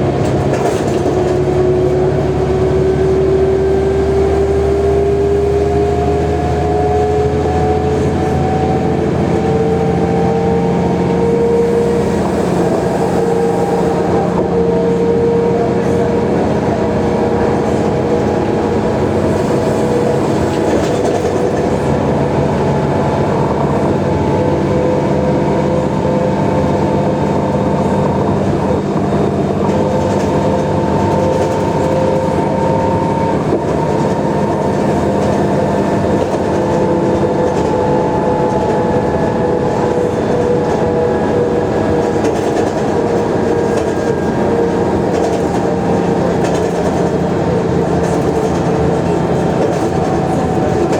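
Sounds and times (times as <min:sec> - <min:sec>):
bus engine drone with whine: 0:00.0 - 0:50.9.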